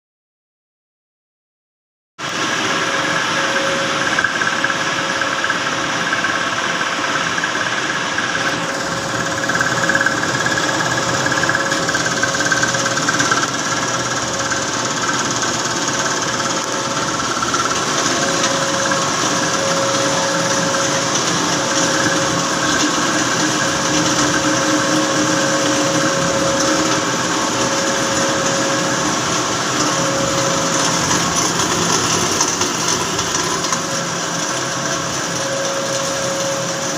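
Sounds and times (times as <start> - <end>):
machinery drone with whining tones: 2.2 - 36.9.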